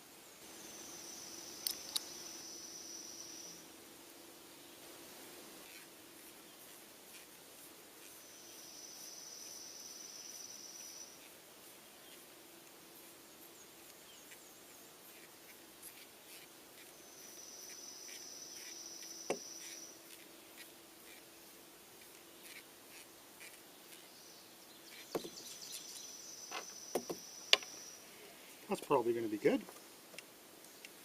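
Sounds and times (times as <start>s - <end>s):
high insect trill: 0.4s - 3.7s, 5.6s - 29.6s.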